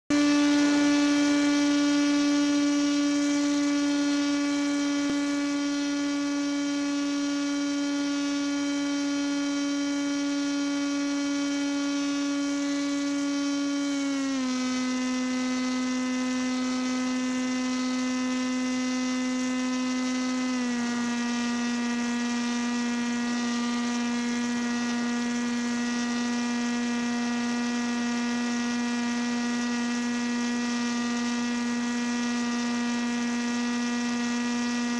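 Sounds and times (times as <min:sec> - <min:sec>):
paramotor engine buzzing drone: 0:00.1 - 0:34.9.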